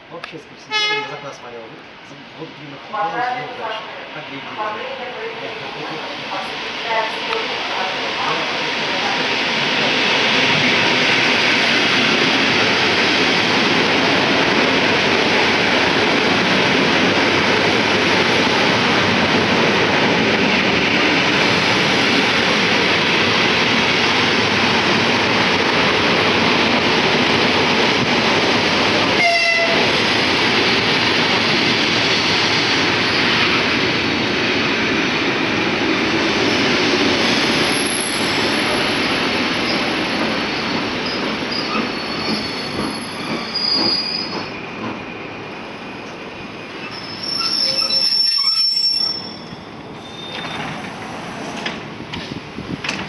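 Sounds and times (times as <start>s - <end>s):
train wheels rumbling on rails: 4.6s - 48.2s, 48.8s - 53.0s.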